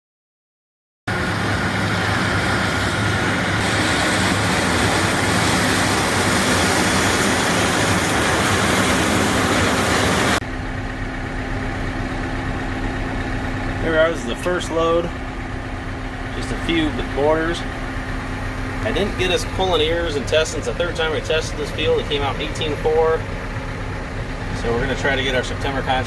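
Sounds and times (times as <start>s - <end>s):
vehicle engine running: 1.1s - 26.0s.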